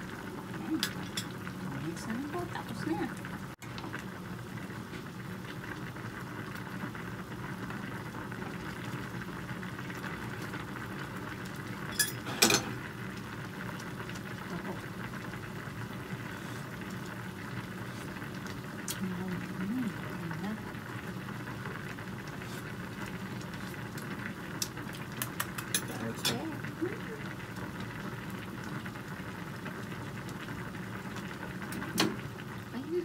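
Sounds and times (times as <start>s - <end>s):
soup bubbling: 0.0s - 33.0s.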